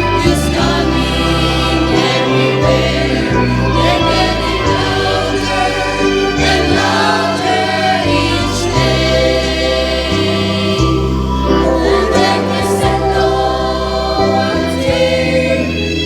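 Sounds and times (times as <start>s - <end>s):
bass line: 0.0s - 16.0s
vocal group singing gospel: 0.0s - 16.0s.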